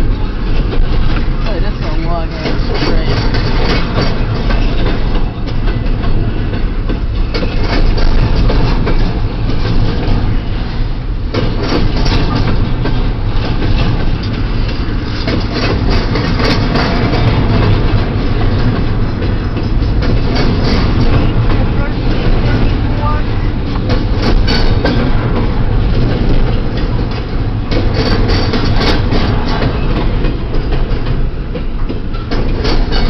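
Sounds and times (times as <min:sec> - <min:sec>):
freight train rumbling past: 0:00.0 - 0:33.0
steel wheels clacking over rail joints: 0:00.0 - 0:33.0.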